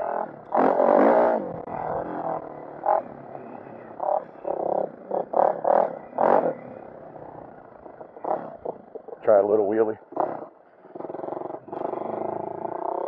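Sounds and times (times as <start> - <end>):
dirt bike engine throttle blips: 0.0 - 10.6.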